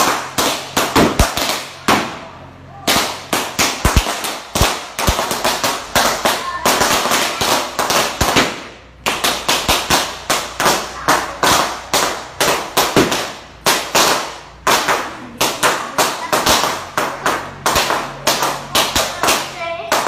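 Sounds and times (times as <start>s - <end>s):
balloons bursting: 0.0s - 20.0s.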